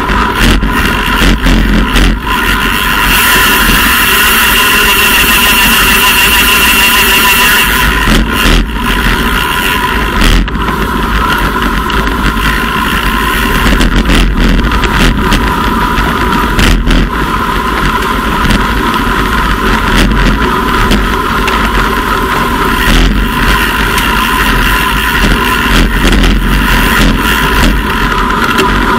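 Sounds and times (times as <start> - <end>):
steady whine: 0.0 - 28.9
wind and road noise: 0.0 - 28.9.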